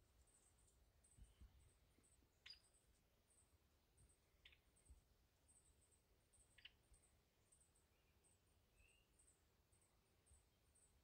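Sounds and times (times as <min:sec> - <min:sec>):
faint high-pitched chirping: 0:00.0 - 0:11.0
small bird calls: 0:00.0 - 0:11.0.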